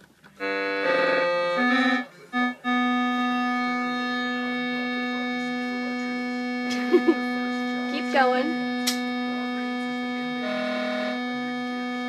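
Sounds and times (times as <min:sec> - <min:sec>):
electronic keyboard notes: 0:00.3 - 0:12.0.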